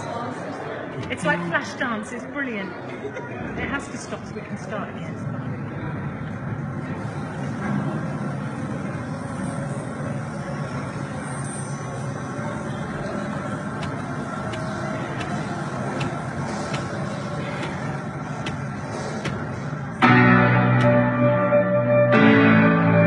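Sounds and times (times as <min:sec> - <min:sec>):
large hall room noise: 0:00.0 - 0:23.0.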